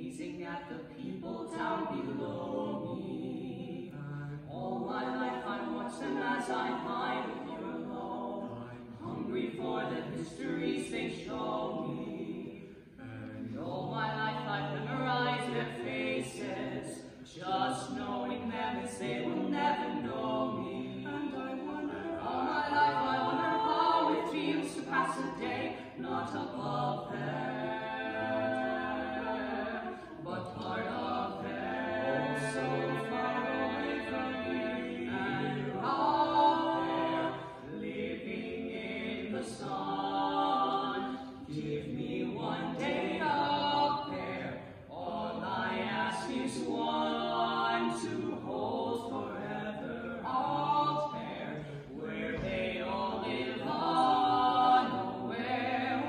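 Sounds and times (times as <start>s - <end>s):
men singing in close harmony: 0.0s - 56.0s.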